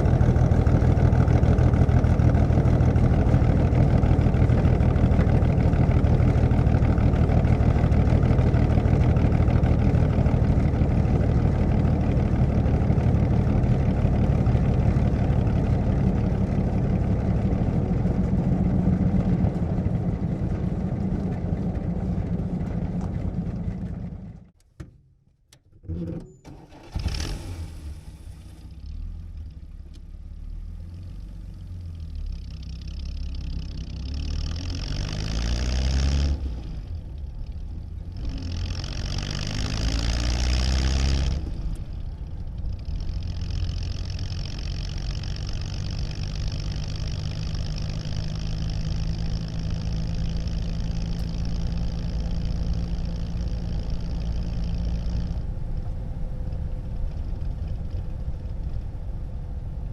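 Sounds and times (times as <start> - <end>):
car engine idling and accelerating: 0.0 - 24.6, 25.7 - 59.9.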